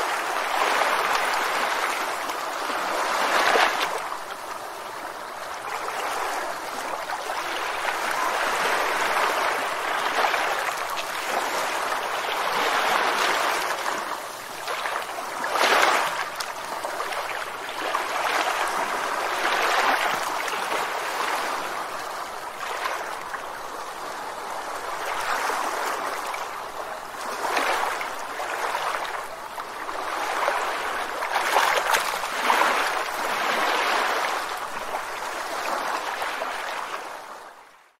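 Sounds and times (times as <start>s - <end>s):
river water flowing and splashing: 0.0s - 37.9s.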